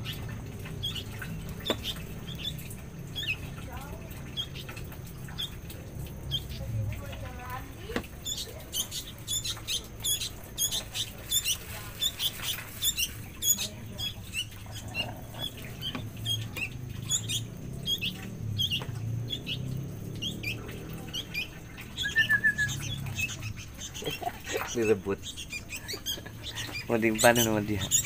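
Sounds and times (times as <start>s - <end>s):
young birds cheeping: 0.0s - 28.0s.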